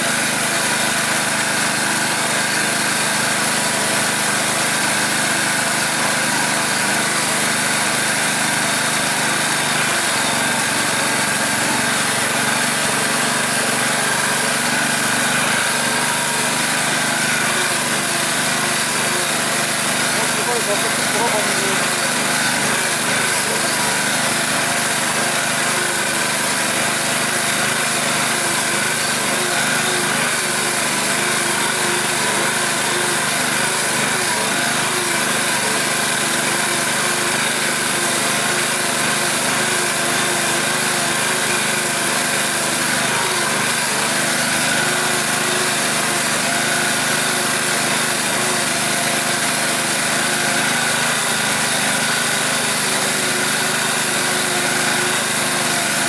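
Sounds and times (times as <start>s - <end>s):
small vehicle engine running: 0.0s - 56.0s.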